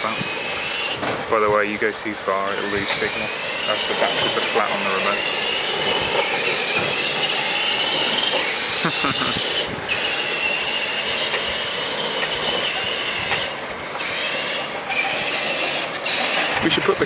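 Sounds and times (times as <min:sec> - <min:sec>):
toy truck motor whining: 0:00.0 - 0:17.0.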